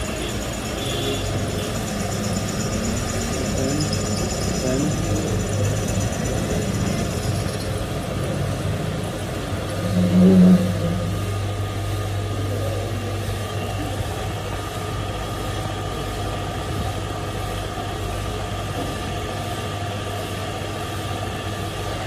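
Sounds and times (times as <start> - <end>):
lathe cutting whine: 0.0 - 22.0
lathe motor hum: 0.0 - 22.0
steady low hum: 0.0 - 22.0.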